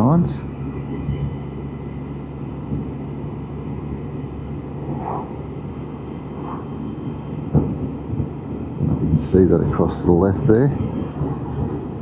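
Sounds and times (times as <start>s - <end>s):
engine cruising hum: 0.0s - 12.0s
wind and road noise: 0.0s - 12.0s.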